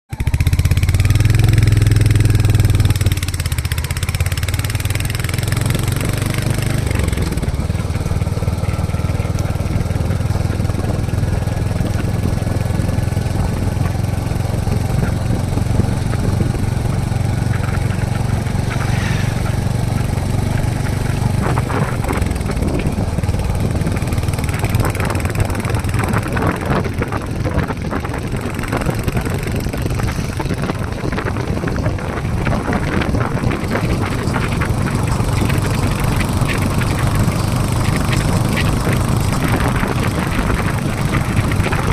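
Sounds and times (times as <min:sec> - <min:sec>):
motorcycle engine running: 0:00.1 - 0:41.9.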